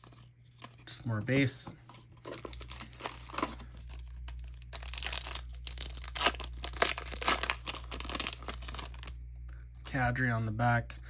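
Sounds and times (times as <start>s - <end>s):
cards and pack rustling: 0.0s - 9.2s.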